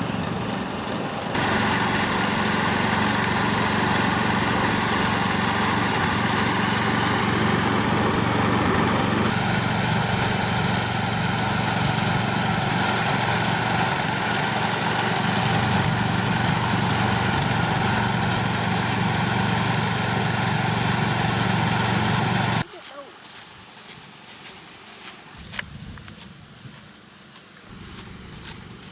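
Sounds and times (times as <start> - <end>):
small engine running: 0.0 - 23.0, 27.7 - 28.9.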